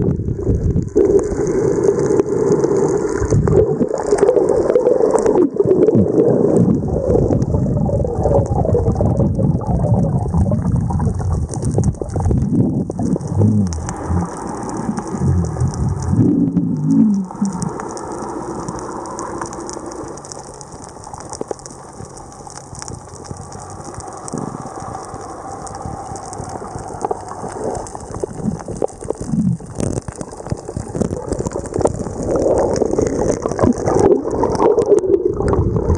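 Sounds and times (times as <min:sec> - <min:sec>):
exhaled bubbles gurgling: 0:00.0 - 0:35.9
underwater crackle of fine clicks: 0:00.3 - 0:35.9.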